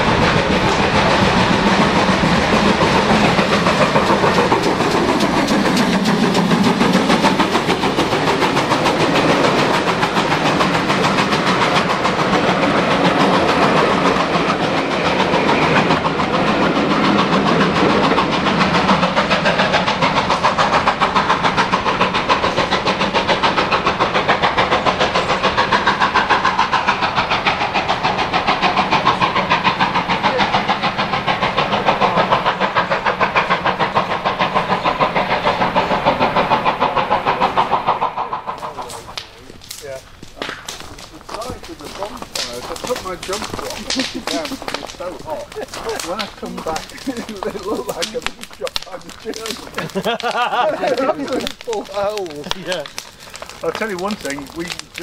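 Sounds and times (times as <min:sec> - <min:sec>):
steam locomotive working: 0:00.0 - 0:55.0
train wheels clattering over rails: 0:00.0 - 0:55.0.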